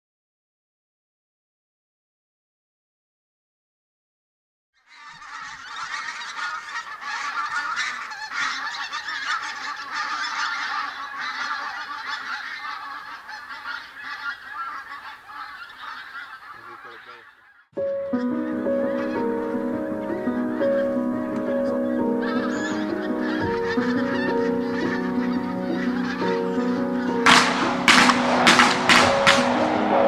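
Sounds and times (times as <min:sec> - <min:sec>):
geese honking: 0:04.8 - 0:30.0.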